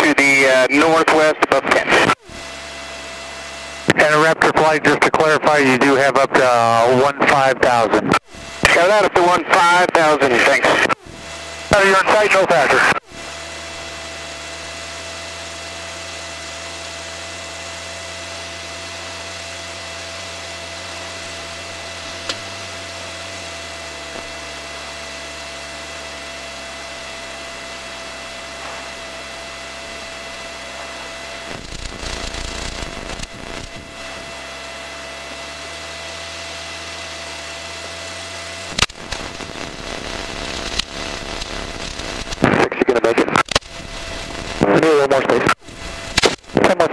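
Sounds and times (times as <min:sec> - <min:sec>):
aircraft engine and propeller drone: 0:00.0 - 0:46.9
crackling noise bursts: 0:00.0 - 0:46.9
thin steady whine: 0:00.0 - 0:46.9.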